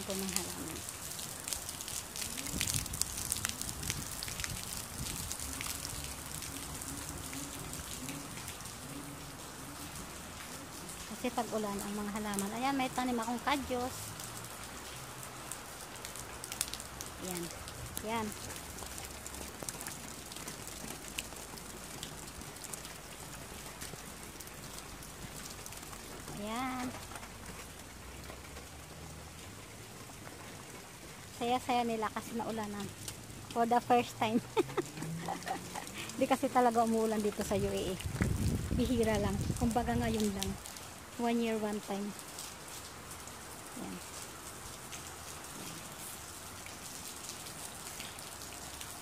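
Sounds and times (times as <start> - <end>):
heavy rain on plants and paving: 0.0 - 49.0.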